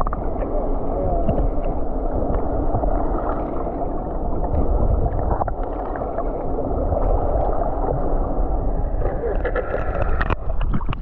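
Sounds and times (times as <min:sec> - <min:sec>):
muffled underwater water rushing: 0:00.0 - 0:11.0.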